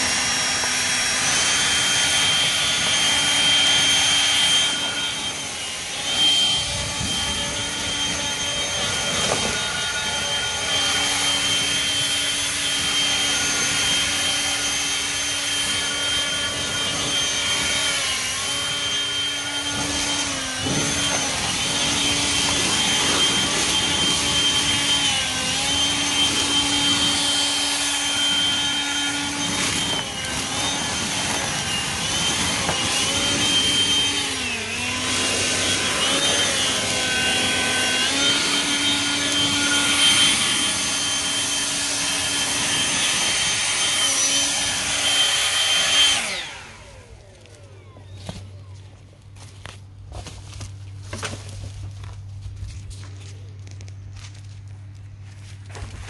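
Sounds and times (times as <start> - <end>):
leaf blower whining: 0.0 - 56.0.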